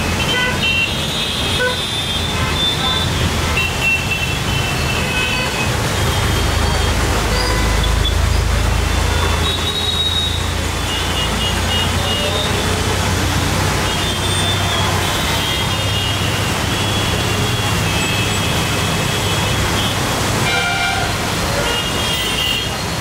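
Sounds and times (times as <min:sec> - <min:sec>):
traffic on wet road: 0:00.0 - 0:23.0.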